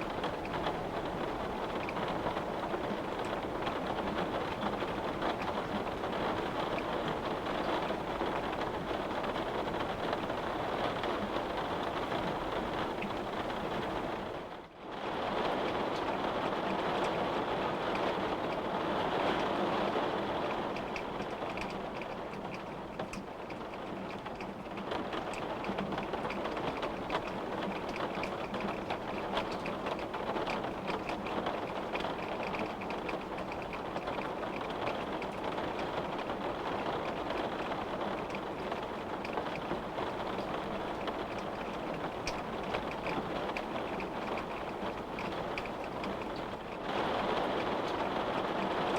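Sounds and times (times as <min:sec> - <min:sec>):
rain on window pane: 0:00.0 - 0:48.9.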